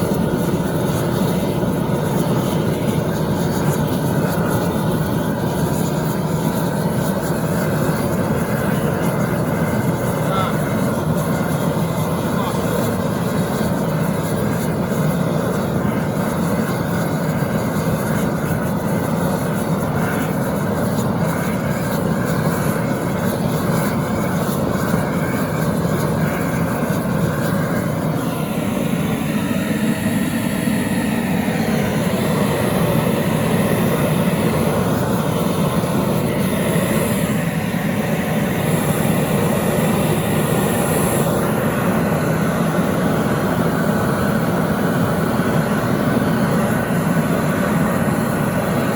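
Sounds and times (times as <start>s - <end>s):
gas torch flame rushing: 0.0s - 48.9s.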